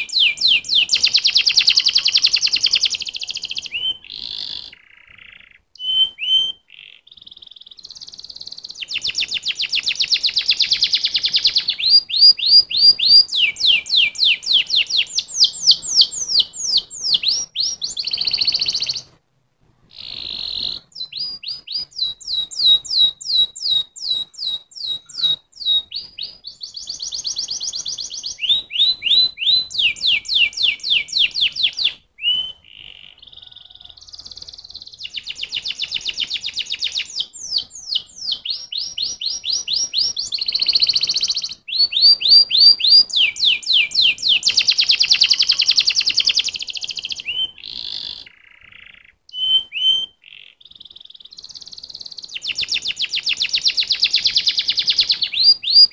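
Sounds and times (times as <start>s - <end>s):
canary singing: 0.0s - 19.2s, 19.8s - 55.9s.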